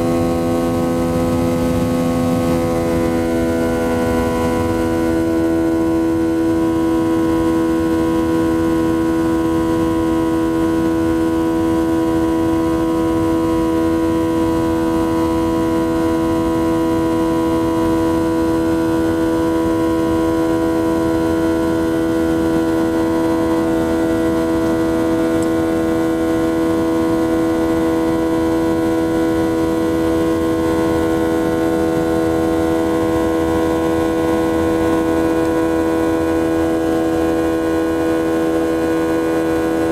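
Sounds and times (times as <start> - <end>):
jet engine drone in cabin: 0.0 - 39.9
whining fan tones: 0.0 - 39.9.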